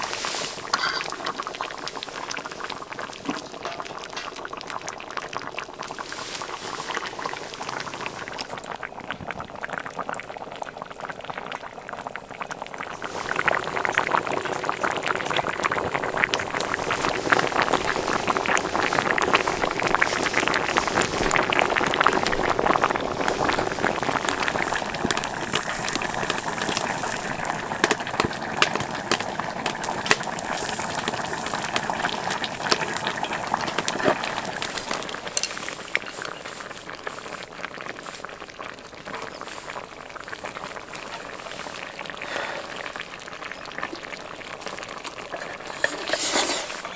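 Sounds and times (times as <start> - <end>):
stew bubbling in a pot: 0.0 - 46.9.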